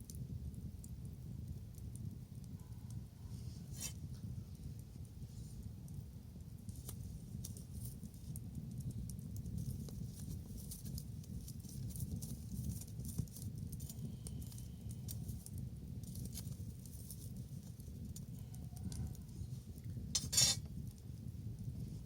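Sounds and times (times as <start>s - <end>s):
bonfire crackling and popping: 0.0s - 22.0s
low fire rumble: 0.0s - 22.0s.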